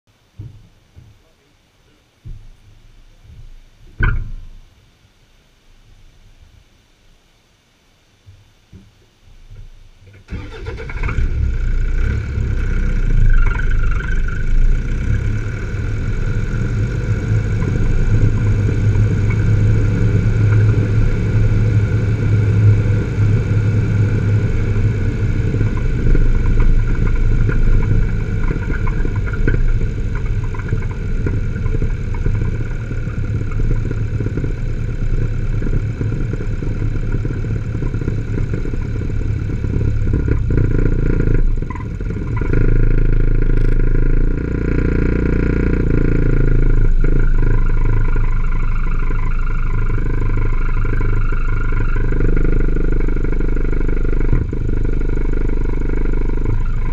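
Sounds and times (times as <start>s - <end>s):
vehicle engine and road noise: 8.4s - 56.9s.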